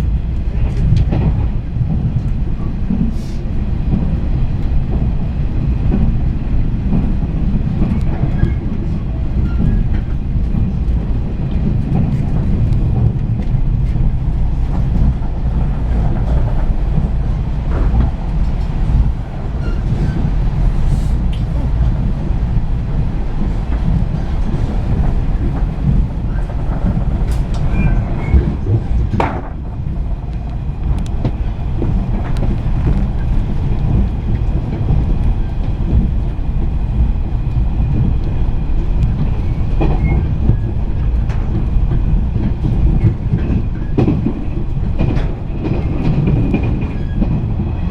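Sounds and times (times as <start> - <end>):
rail clicks: 0.0 - 47.9
train wheels rumbling on track: 0.0 - 47.9.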